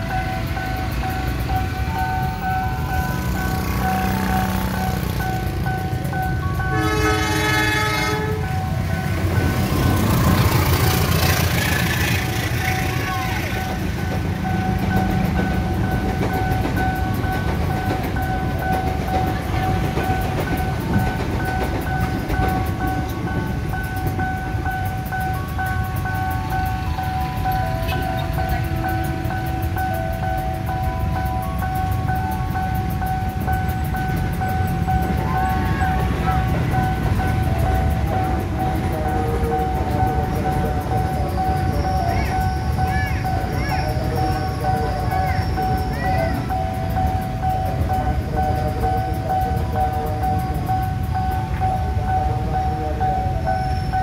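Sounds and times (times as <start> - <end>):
train coaches rumbling past: 0.0 - 54.0
two-tone crossing warning beeps: 0.0 - 54.0.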